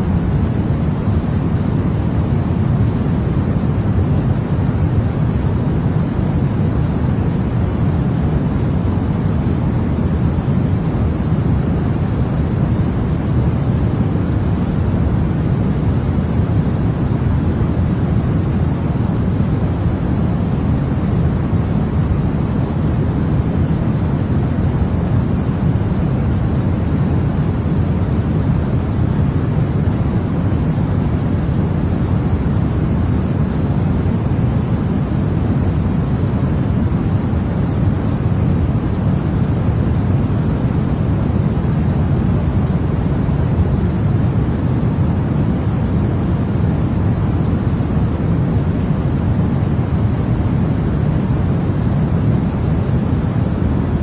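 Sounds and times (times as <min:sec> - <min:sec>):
white noise: 0:00.0 - 0:54.0.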